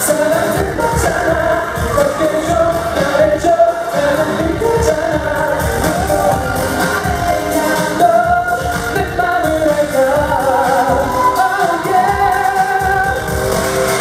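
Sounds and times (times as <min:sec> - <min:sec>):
group singing: 0:00.0 - 0:14.0
pop music over loudspeakers: 0:00.0 - 0:14.0
steady drum beat: 0:00.0 - 0:14.0.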